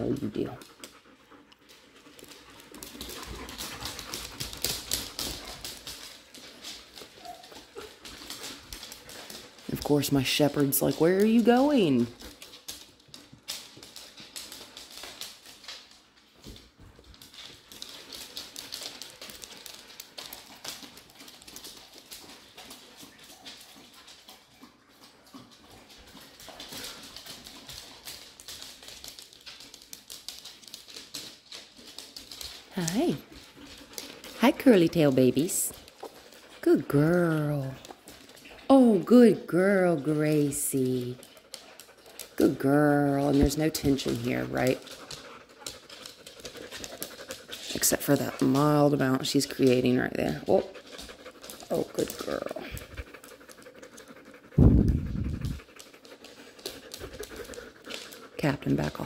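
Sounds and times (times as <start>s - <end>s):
dog claws clicking on hard floor: 0.0s - 36.6s, 37.4s - 42.4s, 43.0s - 59.0s.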